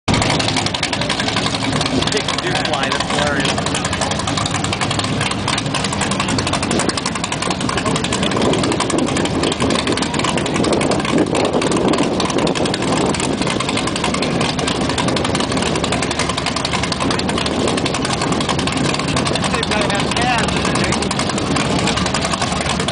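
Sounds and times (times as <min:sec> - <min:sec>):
boat engines idling: 0:00.1 - 0:22.9.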